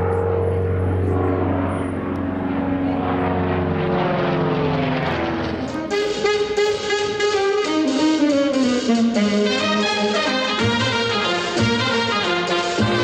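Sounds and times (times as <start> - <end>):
propeller airplane engine drone: 0.0 - 13.0.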